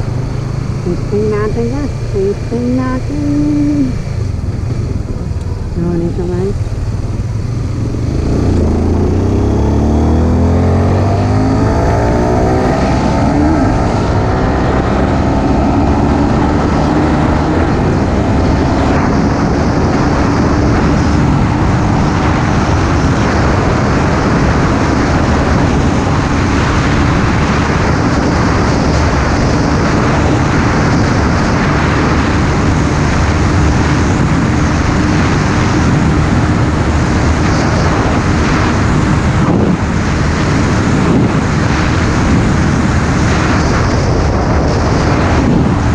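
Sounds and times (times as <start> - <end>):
motorcycle engine accelerating: 0.0 - 45.9
wind rushing on microphone: 0.0 - 45.9.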